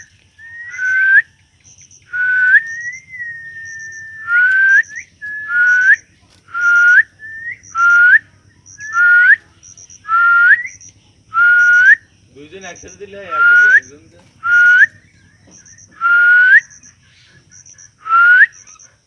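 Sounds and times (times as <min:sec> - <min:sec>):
bird rising whistles: 0:00.0 - 0:12.1, 0:13.3 - 0:18.9
bird high chirps: 0:00.0 - 0:19.0.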